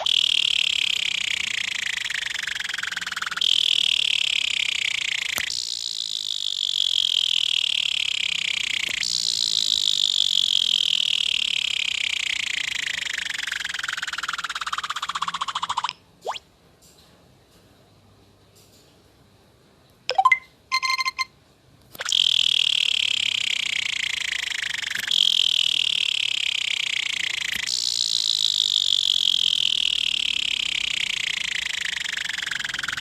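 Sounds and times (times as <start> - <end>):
fidget spinner whirring: 0.0 - 15.9, 21.9 - 33.0.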